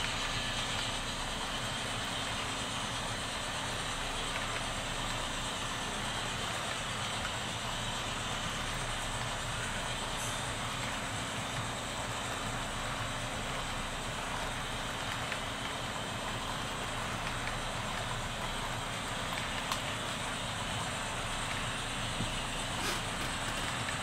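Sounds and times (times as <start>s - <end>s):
model train cars rolling: 0.0s - 24.0s.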